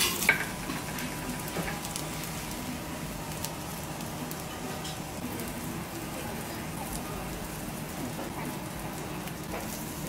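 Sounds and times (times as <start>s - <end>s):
butter sizzling on a griddle: 0.0s - 10.0s.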